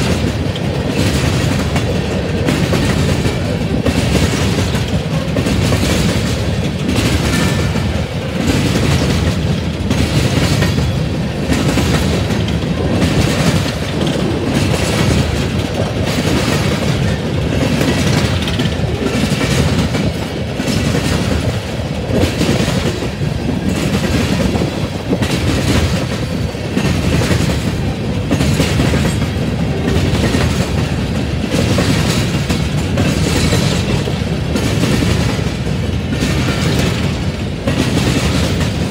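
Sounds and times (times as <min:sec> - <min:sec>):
train wheels rumbling on rail: 0:00.0 - 0:38.9
wheels clickety-clack on rail joints: 0:00.0 - 0:38.9.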